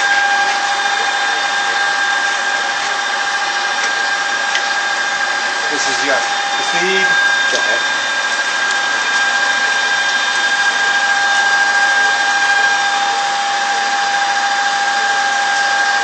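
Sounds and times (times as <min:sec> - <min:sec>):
metal lathe whining: 0:00.0 - 0:16.0.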